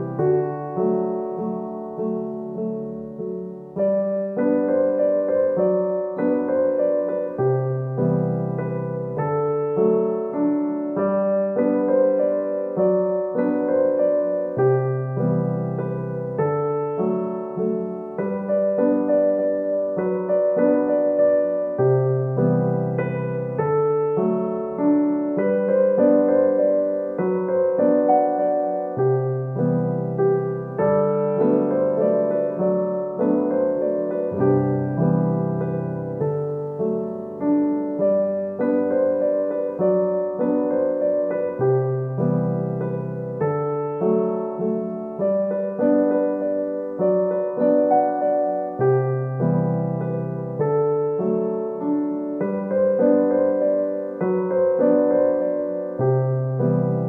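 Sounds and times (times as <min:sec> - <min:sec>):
gentle solo piano: 0:00.0 - 0:57.0.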